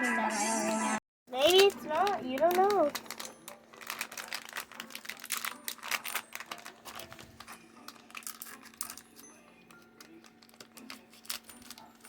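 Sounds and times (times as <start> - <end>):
plastic packaging crinkling: 1.4 - 12.0.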